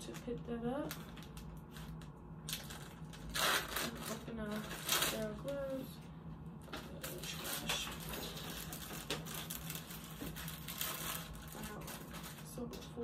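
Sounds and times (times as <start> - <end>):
paper wrapper crinkling: 0.8 - 5.8, 6.8 - 12.9.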